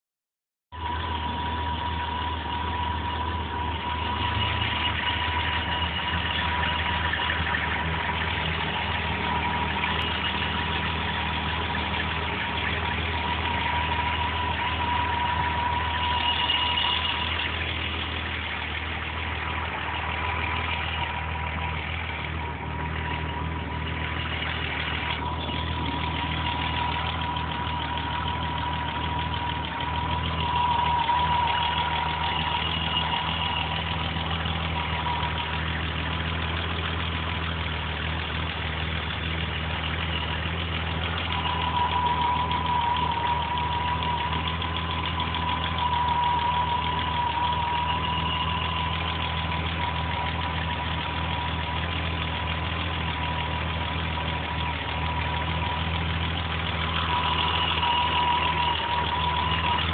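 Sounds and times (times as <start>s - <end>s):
car engine idling roughly: 0.7s - 59.9s
steady whine: 0.7s - 59.9s.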